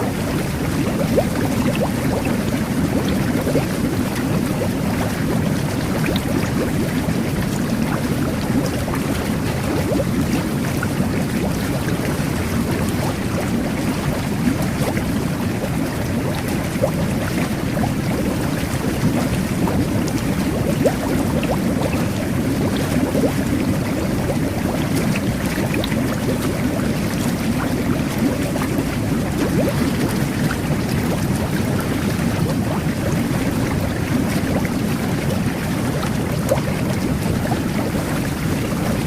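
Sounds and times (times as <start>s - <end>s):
jet bath bubbling water: 0.0s - 39.0s.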